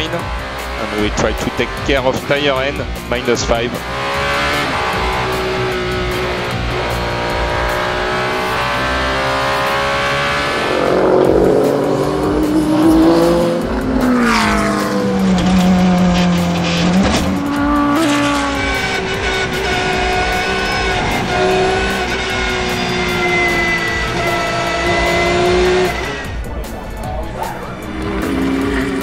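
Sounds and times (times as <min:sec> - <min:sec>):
race cars passing at speed: 0:00.0 - 0:26.5, 0:27.3 - 0:29.0.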